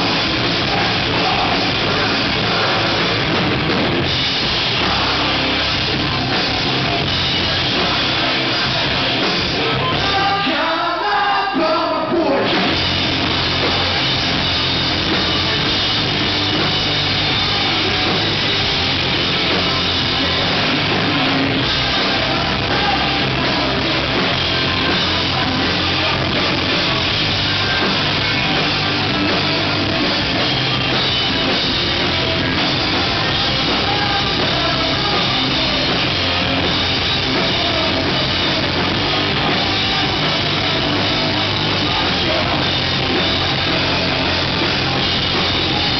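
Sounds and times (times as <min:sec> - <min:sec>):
electric guitars: 0:00.0 - 0:11.1, 0:12.0 - 0:45.9
bass guitar: 0:00.0 - 0:45.9
drum kit: 0:00.0 - 0:45.9.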